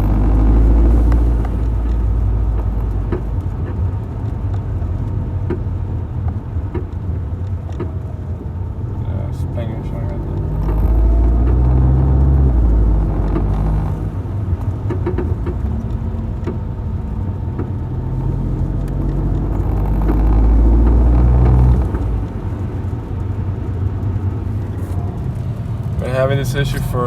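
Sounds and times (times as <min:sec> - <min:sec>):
car engine rumbling: 0:00.0 - 0:27.0.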